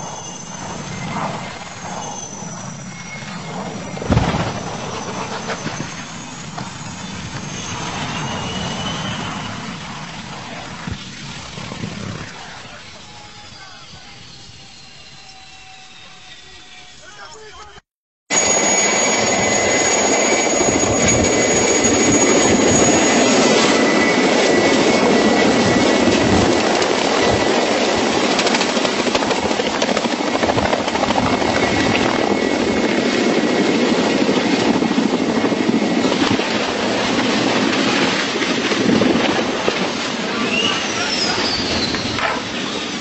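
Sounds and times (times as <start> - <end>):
helicopter rotor rushing: 0.0 - 17.5, 18.3 - 43.0
turbine whine: 0.0 - 43.0.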